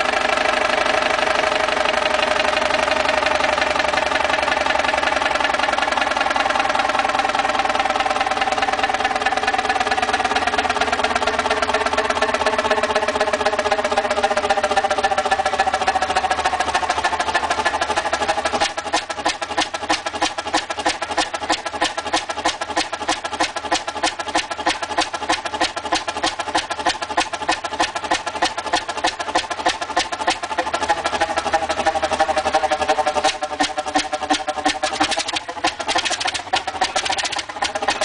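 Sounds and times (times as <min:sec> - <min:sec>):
large diesel engine running: 0:00.0 - 0:38.0.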